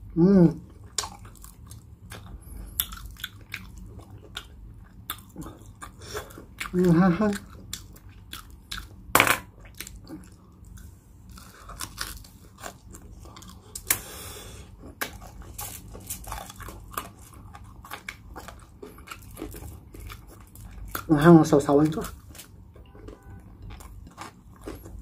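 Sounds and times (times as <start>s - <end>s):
chewing crispy pork skin: 0.6s - 25.0s
crunching of crackling skin: 0.6s - 25.0s.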